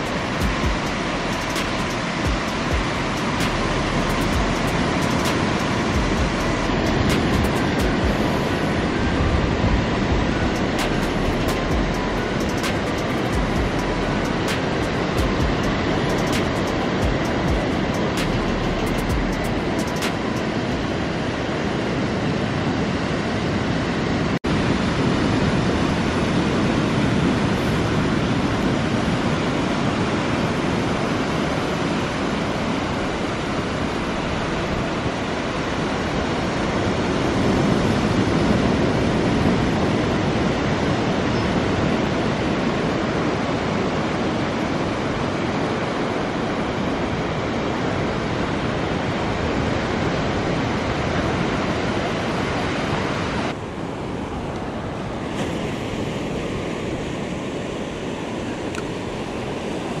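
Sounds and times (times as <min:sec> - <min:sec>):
surf rushing on beach: 0:00.0 - 1:00.0
wind on microphone: 0:00.0 - 1:00.0.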